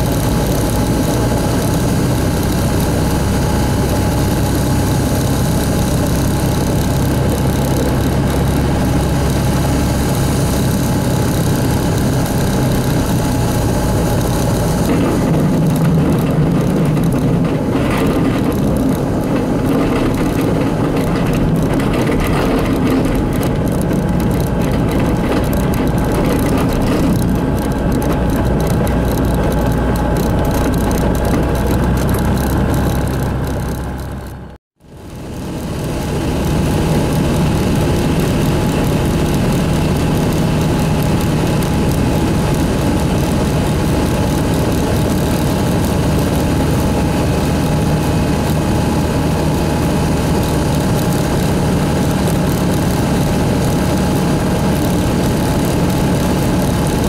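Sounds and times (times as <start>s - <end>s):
ultralight aircraft engine and propeller: 0.0s - 57.0s.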